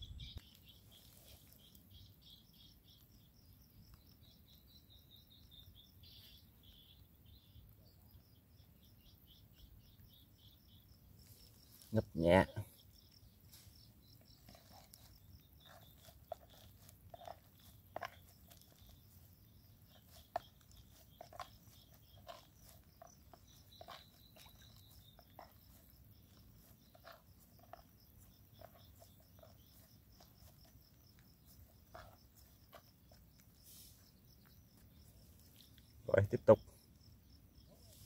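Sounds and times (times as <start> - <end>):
faint insect trill: 0.0 - 38.0.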